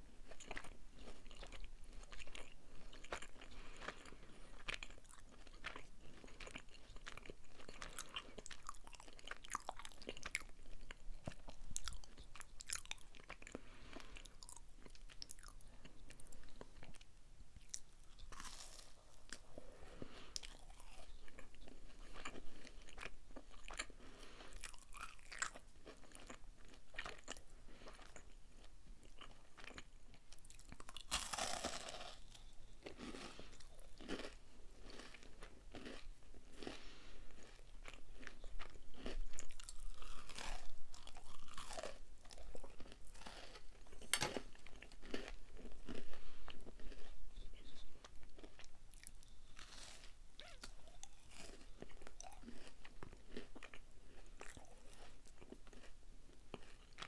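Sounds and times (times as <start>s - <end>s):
chewing and biting: 0.3s - 57.0s.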